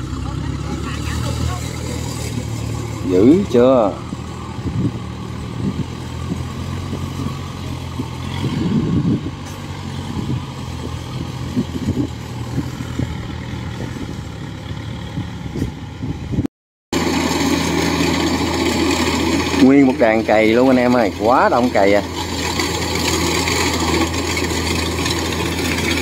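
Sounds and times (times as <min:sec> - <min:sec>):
combine harvester droning: 0:00.0 - 0:26.0
farm hauler engine running: 0:00.0 - 0:26.0.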